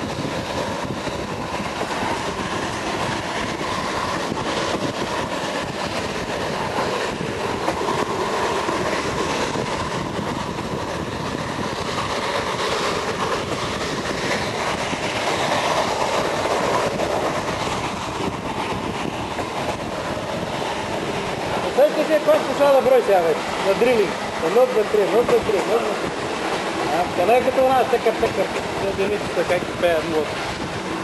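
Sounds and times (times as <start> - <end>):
steam train running: 0.0 - 31.0.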